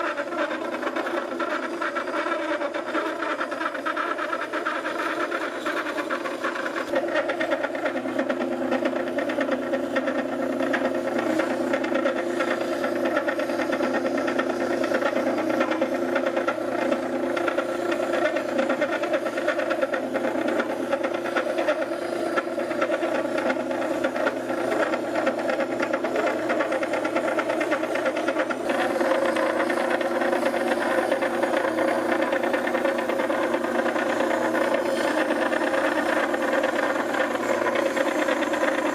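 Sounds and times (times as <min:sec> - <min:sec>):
wet grinder humming: 0:00.0 - 0:38.9.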